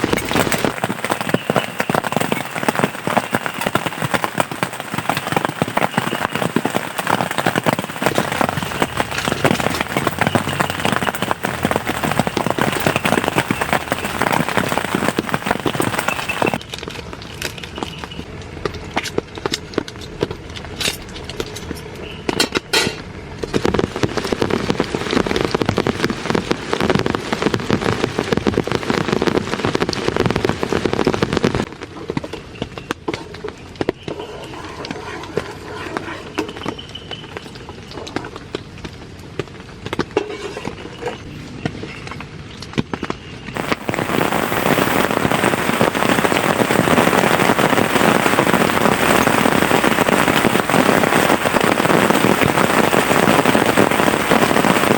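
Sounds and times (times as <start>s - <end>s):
heavy rain falling: 0.0s - 16.6s, 23.5s - 32.3s, 32.9s - 41.3s, 43.5s - 54.9s.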